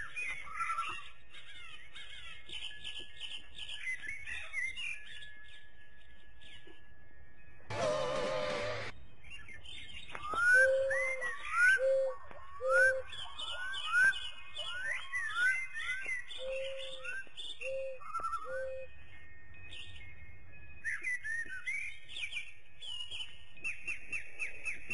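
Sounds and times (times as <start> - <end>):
birds whistling chirps: 0.0 - 6.9, 9.1 - 24.9.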